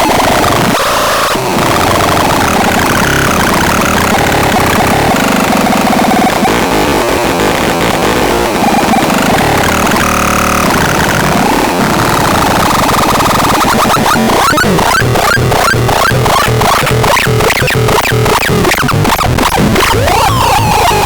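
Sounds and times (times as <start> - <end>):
electronic pitch glides: 1.4 - 21.0.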